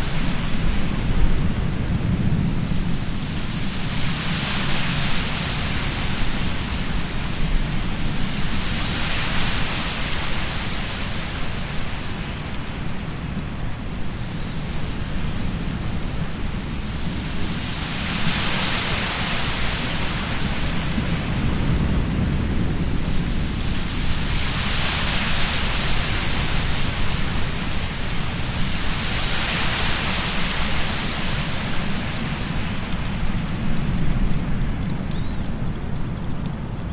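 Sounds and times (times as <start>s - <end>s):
wind rumble on microphone: 0.0s - 36.9s.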